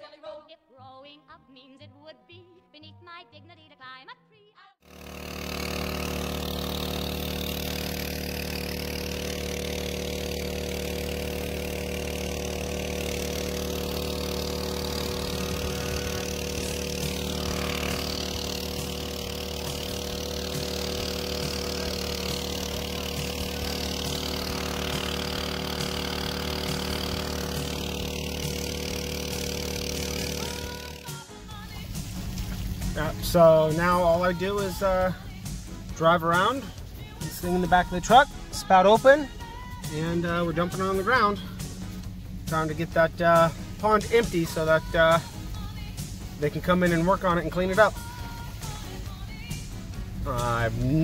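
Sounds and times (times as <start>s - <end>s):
small water pump engine running: 4.8s - 51.0s.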